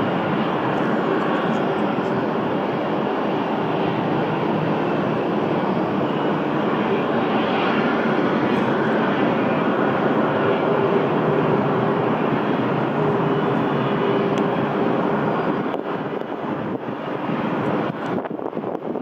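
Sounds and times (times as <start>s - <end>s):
distant jet engines running: 0.0s - 19.0s.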